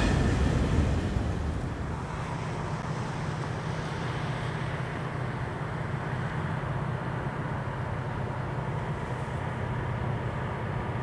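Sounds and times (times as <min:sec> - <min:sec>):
distant diesel locomotive rumble: 0:00.0 - 0:11.0.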